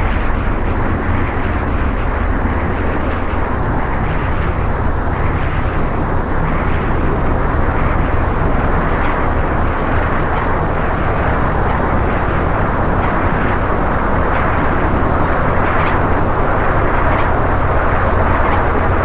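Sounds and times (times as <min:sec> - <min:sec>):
ambient drone music: 0:00.0 - 0:19.0.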